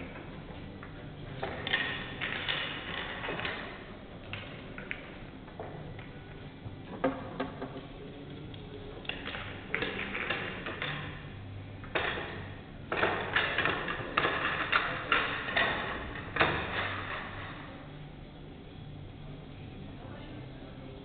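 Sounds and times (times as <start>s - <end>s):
pool balls clacking: 0.0s - 17.9s.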